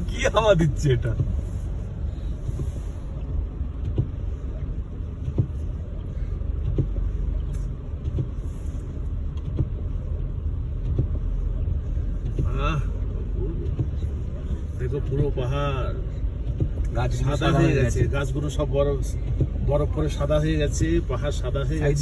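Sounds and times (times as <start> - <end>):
car cabin rumble on snow: 0.0 - 22.0.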